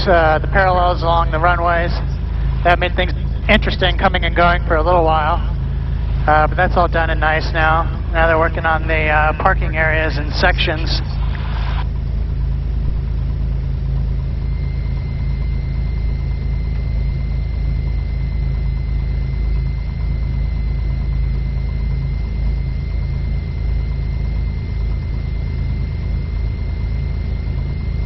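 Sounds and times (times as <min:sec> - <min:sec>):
propeller plane engine droning: 0:00.0 - 0:28.0
thin steady whine: 0:00.0 - 0:28.0.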